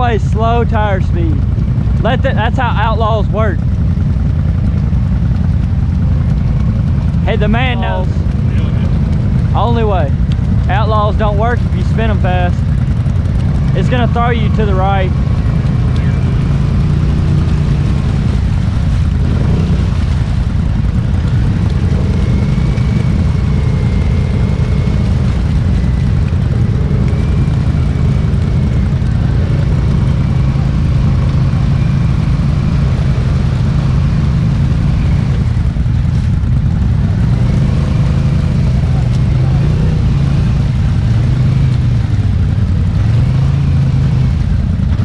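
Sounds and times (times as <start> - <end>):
quad bike engine running: 0.0 - 45.0.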